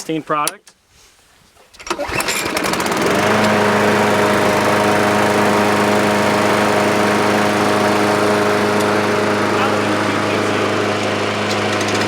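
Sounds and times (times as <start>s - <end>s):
lawn mower engine running: 1.8s - 12.0s.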